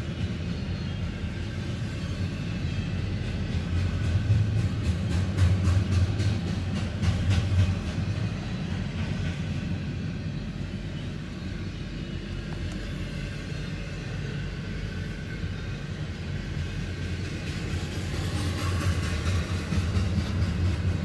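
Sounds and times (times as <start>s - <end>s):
freight train rumbling by: 0.0s - 21.0s
rhythmic clicks of train wheels: 0.0s - 21.0s.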